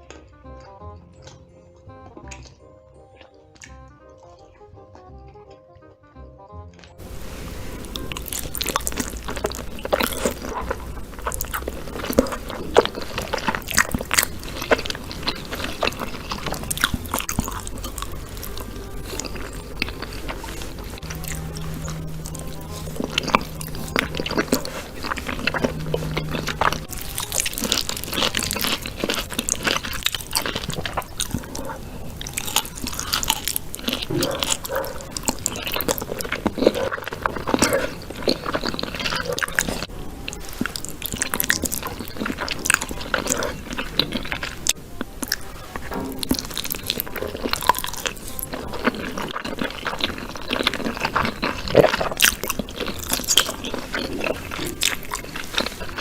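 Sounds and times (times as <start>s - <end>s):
crunchy chewing of chicken: 6.8s - 56.0s.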